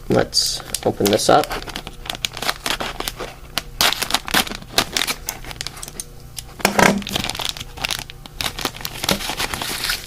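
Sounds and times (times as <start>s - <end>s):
plastic bag crinkling and tearing: 0.9s - 10.0s.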